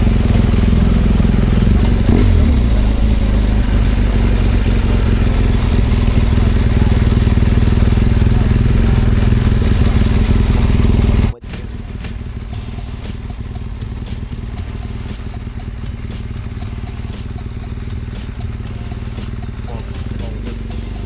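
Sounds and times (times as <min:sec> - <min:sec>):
background music: 0:00.0 - 0:10.7, 0:11.4 - 0:21.0
motorcycle engine running: 0:00.0 - 0:21.0.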